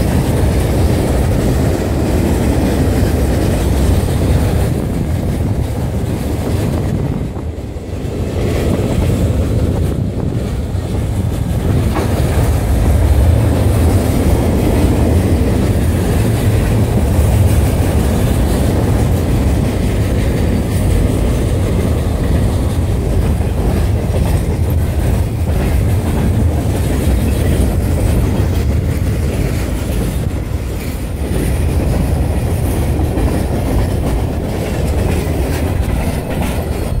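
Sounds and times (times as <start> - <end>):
train wheels rumbling on rails: 0.0 - 37.0
wheels clacking over rail joints: 0.0 - 37.0.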